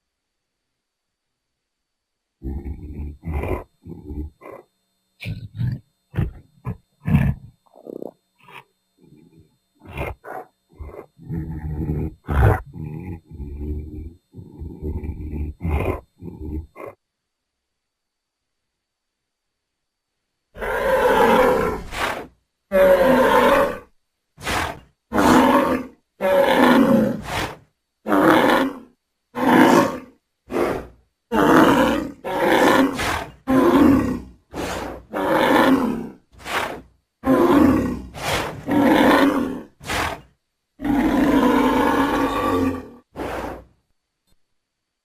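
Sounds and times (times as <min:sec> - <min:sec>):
dinosaur roars and grunts: 0:02.4 - 0:17.0, 0:20.6 - 0:43.7.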